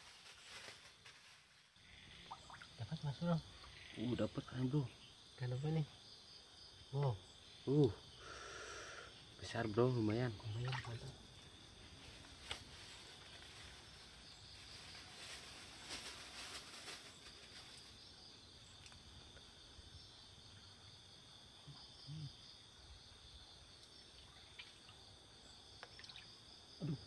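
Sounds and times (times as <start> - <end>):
night insects chorus: 0.0 - 27.0.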